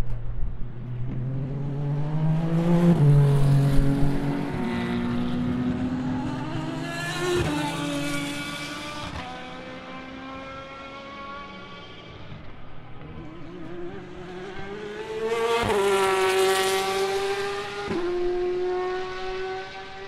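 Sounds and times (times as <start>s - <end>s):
race car engines accelerating: 0.2s - 20.0s.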